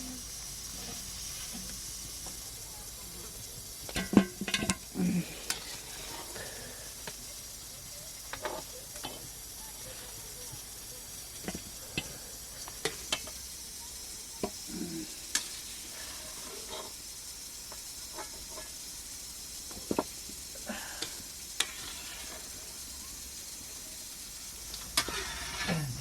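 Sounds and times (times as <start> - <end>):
food sizzling in a pan: 0.0 - 26.0
sharp clicks and crackles: 3.3 - 25.8.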